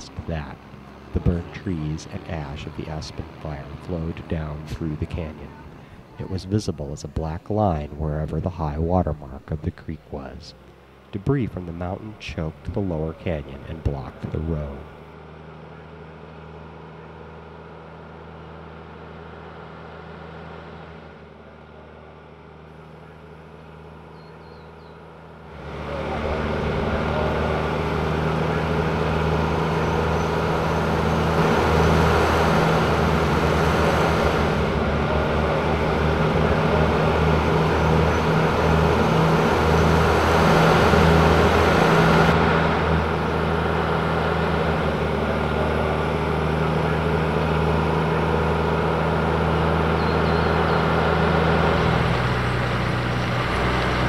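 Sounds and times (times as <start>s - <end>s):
road noise: 0.0s - 54.0s
tram engine droning: 0.0s - 54.0s.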